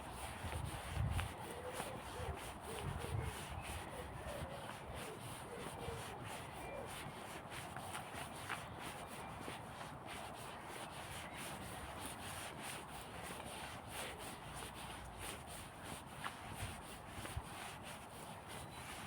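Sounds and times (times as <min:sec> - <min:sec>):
footsteps on woodland path: 0:00.0 - 0:19.0.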